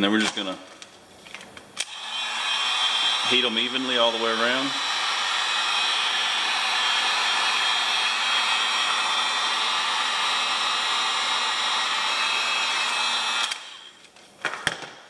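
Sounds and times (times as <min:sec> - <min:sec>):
heat gun blowing air: 0:01.8 - 0:14.0.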